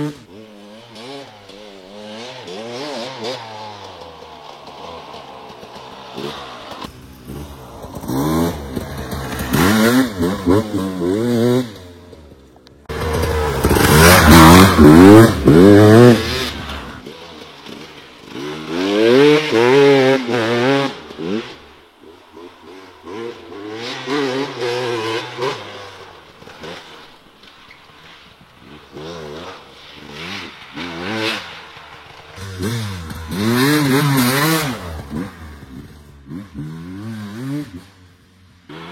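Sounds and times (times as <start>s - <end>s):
motorcycle engine revving: 0.0s - 27.5s, 28.1s - 38.9s.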